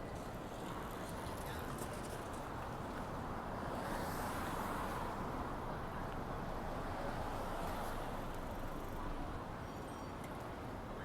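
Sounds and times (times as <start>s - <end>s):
city street traffic hum: 0.0s - 11.0s.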